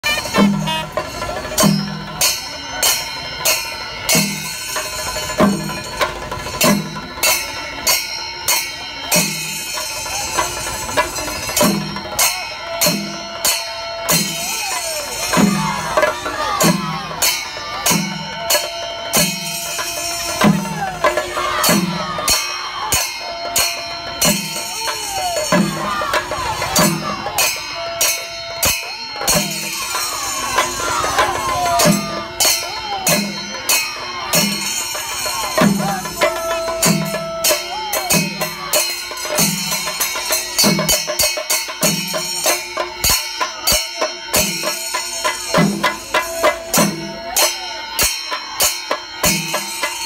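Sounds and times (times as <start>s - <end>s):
drums beating slow rhythm: 0.0s - 50.0s
hand cymbals clashing: 0.0s - 50.0s.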